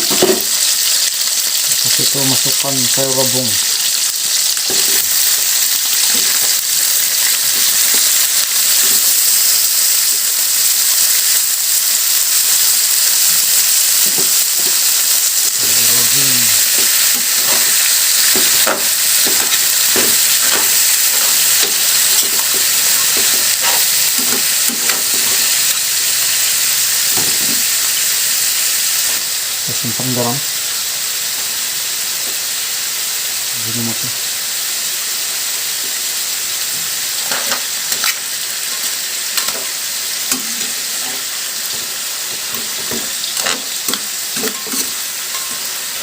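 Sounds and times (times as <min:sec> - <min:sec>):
food sizzling in a hot pan: 0:00.0 - 0:46.0.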